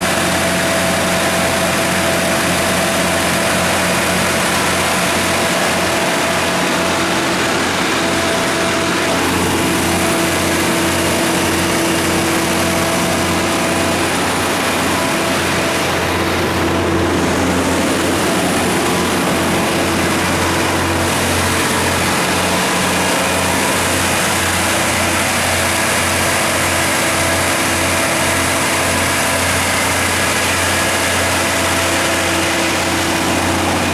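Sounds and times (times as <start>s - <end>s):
generator engine humming: 0.0s - 33.9s.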